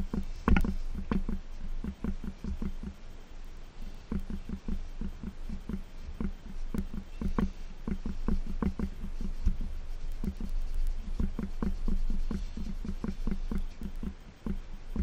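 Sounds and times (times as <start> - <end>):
sponge scrubbing metal pipes: 0.0 - 3.0, 3.6 - 15.0.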